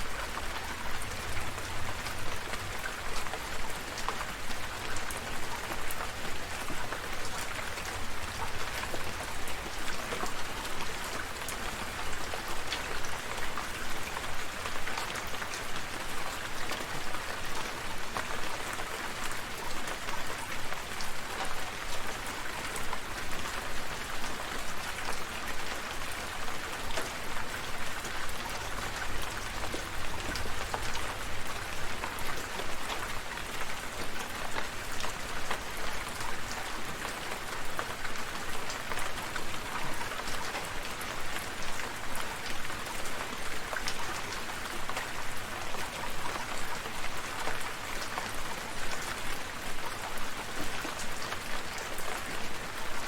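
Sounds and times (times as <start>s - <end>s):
rain falling: 0.0s - 53.0s
raindrops pattering on surfaces: 0.0s - 53.0s.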